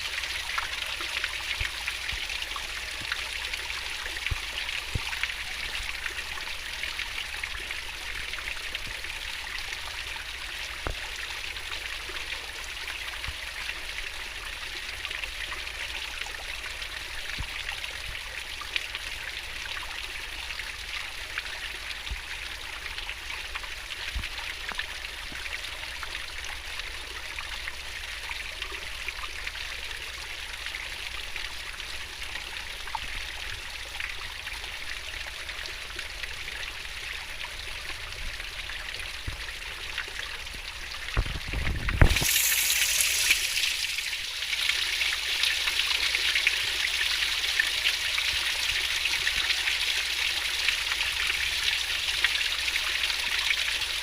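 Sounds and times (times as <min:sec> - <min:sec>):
stream babbling: 0:00.0 - 0:54.0
water drips and splashes: 0:00.0 - 0:54.0.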